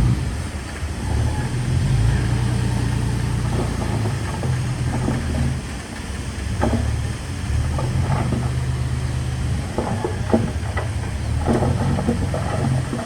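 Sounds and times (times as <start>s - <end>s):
bulldozer diesel engine under load: 0.0s - 13.0s.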